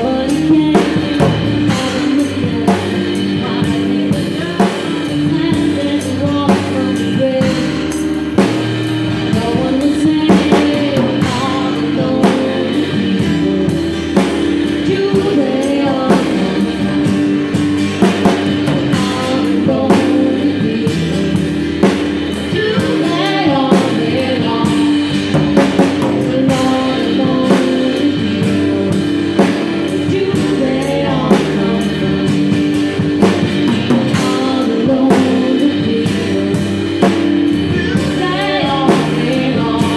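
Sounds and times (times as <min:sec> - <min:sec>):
acoustic and electric guitars: 0:00.0 - 0:39.9
drum kit steady beat: 0:00.0 - 0:39.9
upright bass: 0:00.0 - 0:39.9
woman singing lead: 0:00.0 - 0:39.9.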